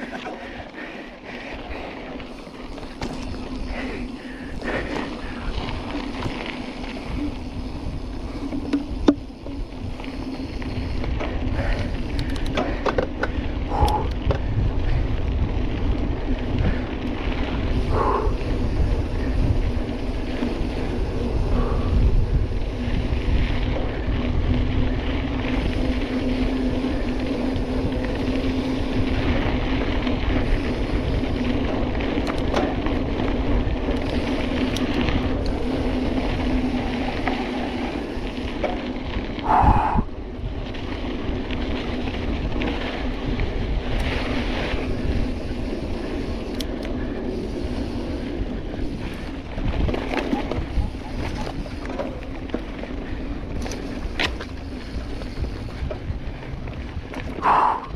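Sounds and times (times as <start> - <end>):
bike rattles and clicks: 0.0 - 57.9
tyre and wind rumble: 0.0 - 57.9.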